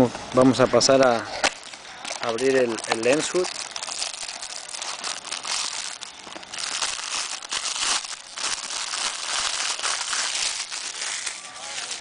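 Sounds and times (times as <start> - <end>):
plastic bag crinkling: 1.6 - 12.0.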